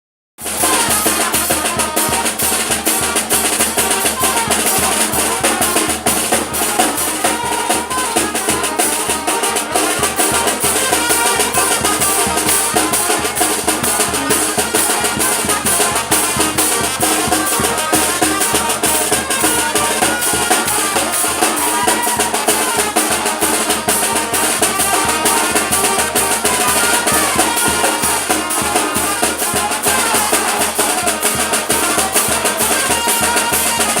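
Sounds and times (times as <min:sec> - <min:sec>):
live music with drums: 0:00.4 - 0:34.0.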